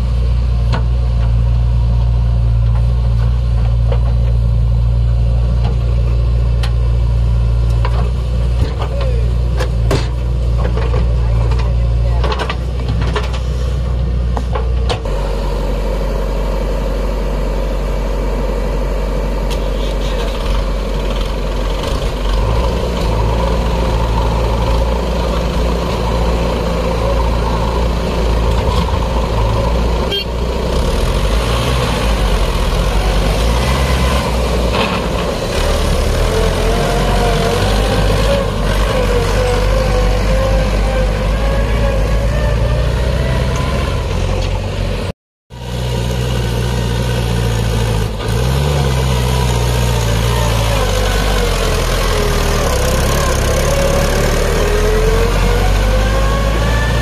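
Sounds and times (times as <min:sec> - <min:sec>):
diesel engine droning: 0:00.0 - 0:57.0
tractor diesel engine: 0:00.0 - 0:57.0.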